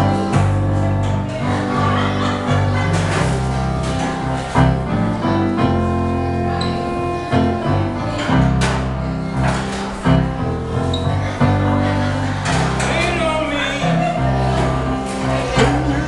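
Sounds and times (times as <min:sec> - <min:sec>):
piano keyboard music: 0:00.0 - 0:16.0.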